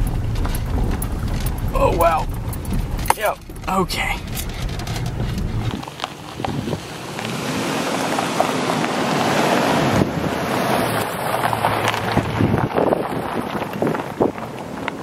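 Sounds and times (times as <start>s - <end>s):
truck engine hum: 0.0s - 15.0s
tyres crunching on gravel: 0.0s - 15.0s
wind buffeting microphone: 0.0s - 15.0s.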